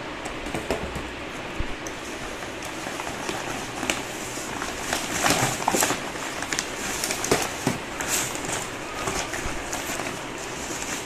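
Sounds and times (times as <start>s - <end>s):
paper crinkling and rustling: 1.9s - 11.0s.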